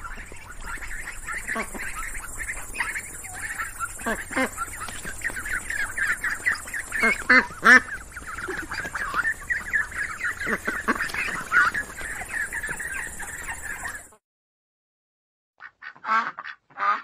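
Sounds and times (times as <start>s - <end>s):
ducks quacking: 0.0s - 14.1s, 15.6s - 17.0s.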